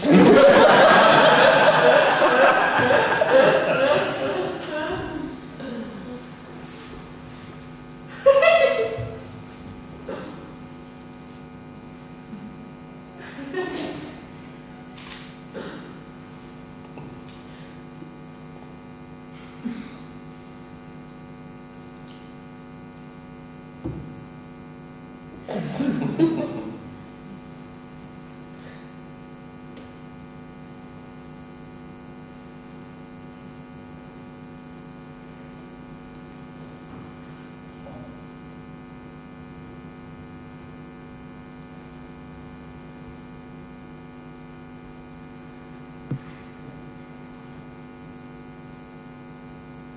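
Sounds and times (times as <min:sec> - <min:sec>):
electrical mains hum: 0:00.0 - 0:49.9.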